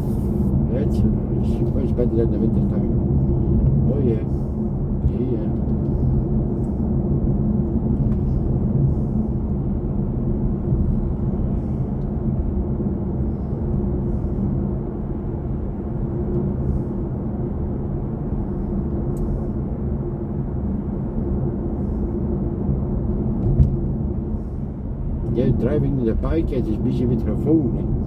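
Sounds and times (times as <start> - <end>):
road and tyre rumble in car: 0.0 - 28.0.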